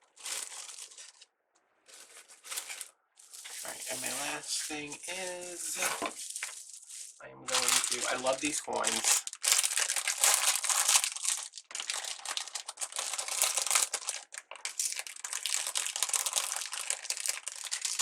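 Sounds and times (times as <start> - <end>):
plastic crinkling: 0.0 - 18.0.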